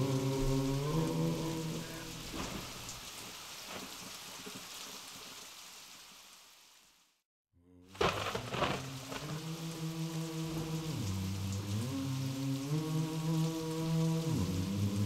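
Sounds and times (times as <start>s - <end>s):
steady rain-like hiss: 0.0s - 7.2s, 7.9s - 15.0s.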